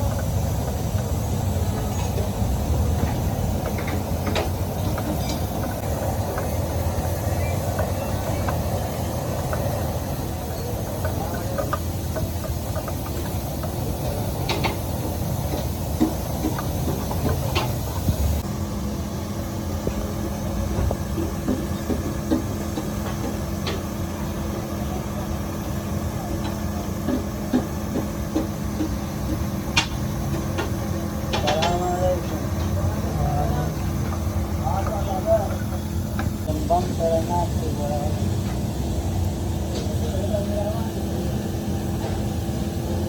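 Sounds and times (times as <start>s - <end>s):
busy street noise: 0.0s - 43.0s
steady low hum: 0.0s - 43.0s.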